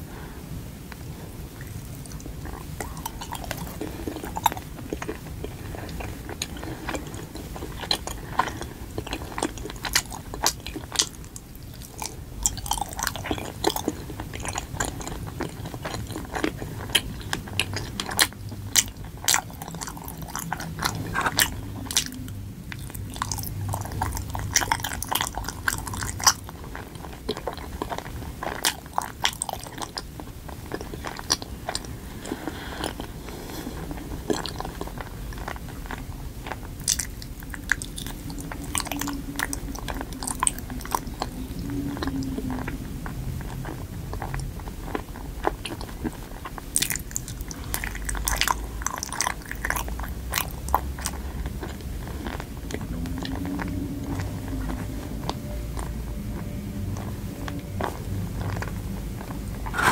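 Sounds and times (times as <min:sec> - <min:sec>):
chewing sticky rice cake: 0:00.9 - 0:59.9.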